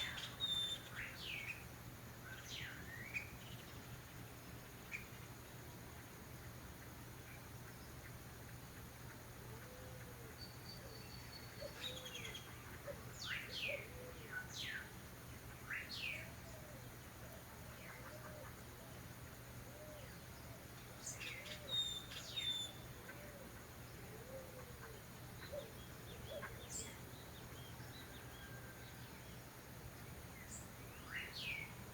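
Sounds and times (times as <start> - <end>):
orioles calling: 0.0 - 31.9.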